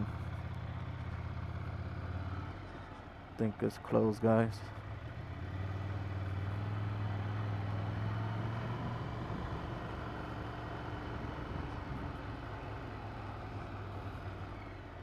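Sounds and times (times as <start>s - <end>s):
motorcycle engine idling: 0.0s - 8.0s, 8.8s - 15.0s.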